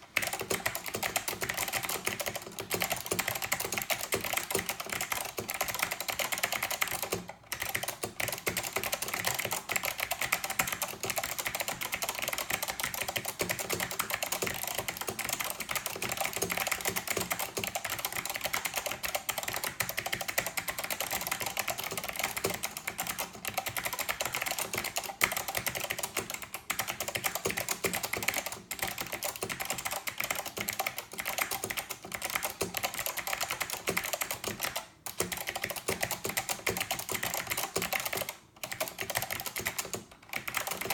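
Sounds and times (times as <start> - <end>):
fast typing on clicky keyboard: 0.0 - 40.9.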